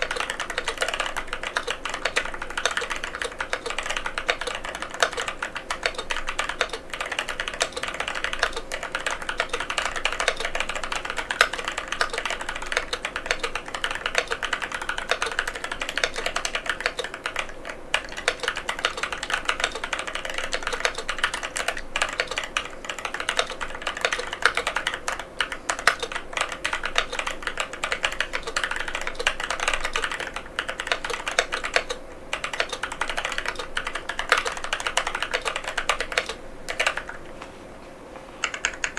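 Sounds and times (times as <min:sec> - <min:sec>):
mechanical keyboard typing: 0:00.0 - 0:37.3, 0:38.4 - 0:38.9.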